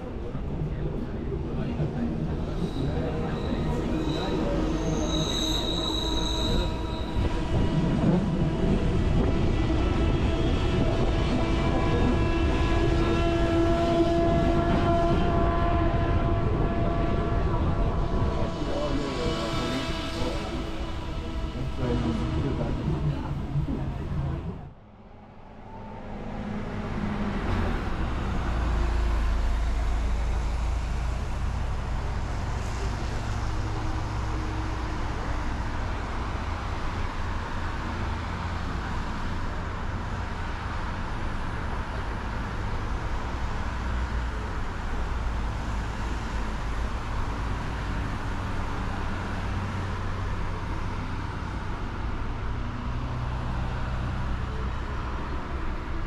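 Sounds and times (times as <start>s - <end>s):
moving train rumble: 0.0s - 56.0s.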